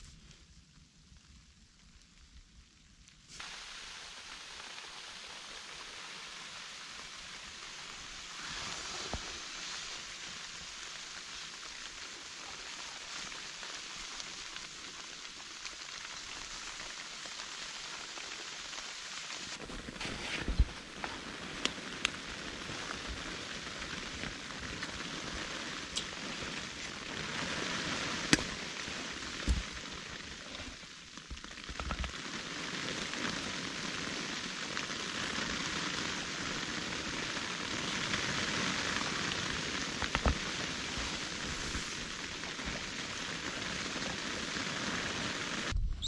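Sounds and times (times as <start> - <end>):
snow pattering on tent: 3.3 - 45.8.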